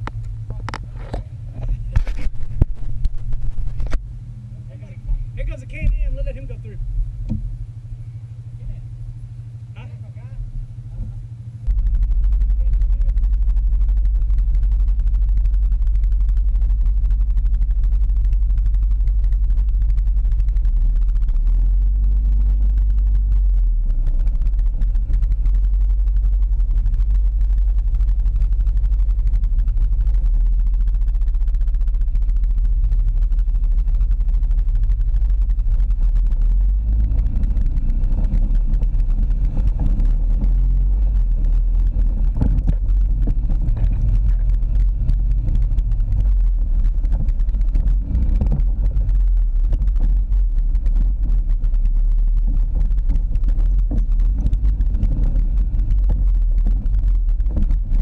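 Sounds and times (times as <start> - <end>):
atv engine rumbling: 0.0 - 58.0.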